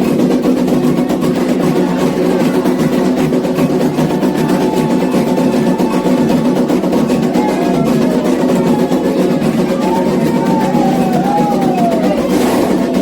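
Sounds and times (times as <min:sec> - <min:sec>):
hand drums fast rhythm: 0:00.0 - 0:13.0.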